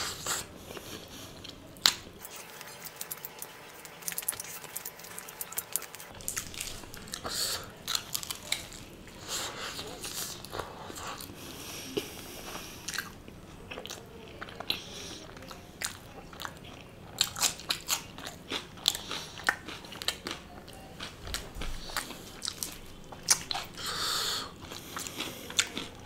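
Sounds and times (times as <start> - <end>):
crunchy chewing and biting: 0.0 - 26.0.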